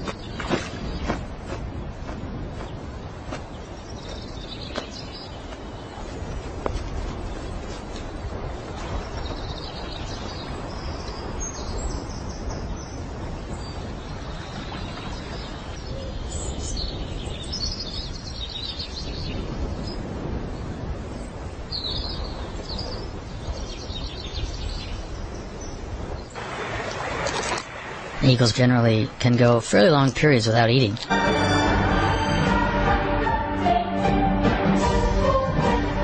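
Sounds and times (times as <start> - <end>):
birds chirping: 0.0 - 20.0, 21.7 - 32.9.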